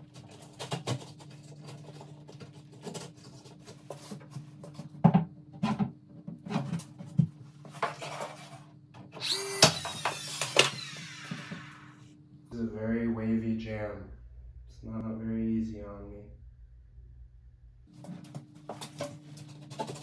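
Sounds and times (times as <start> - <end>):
faint steady hum: 0.2 - 20.0.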